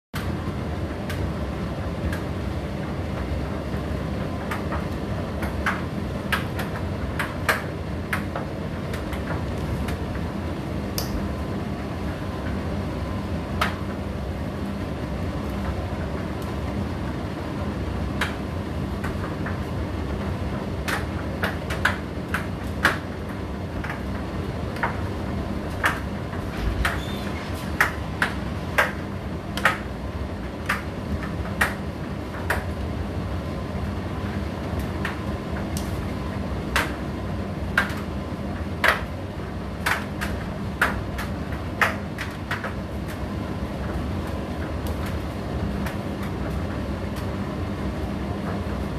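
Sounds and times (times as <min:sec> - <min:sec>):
tumble dryer humming: 0:00.2 - 0:48.9.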